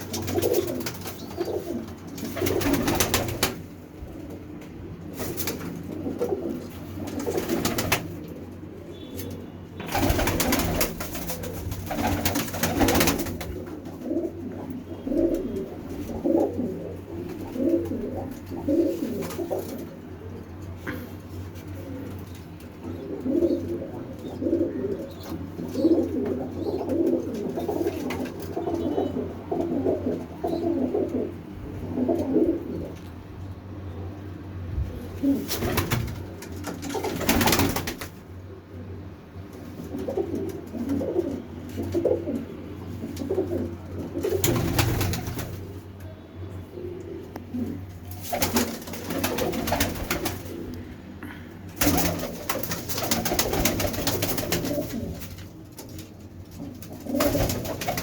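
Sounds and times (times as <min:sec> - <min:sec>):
pigeons cooing: 0:00.0 - 0:33.1, 0:34.9 - 0:45.8, 0:46.6 - 0:58.0.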